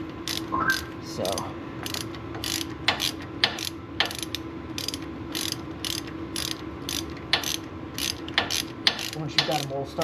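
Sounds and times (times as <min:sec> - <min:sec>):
ratchet wrench clicking: 0:00.3 - 0:00.5, 0:01.3 - 0:09.8.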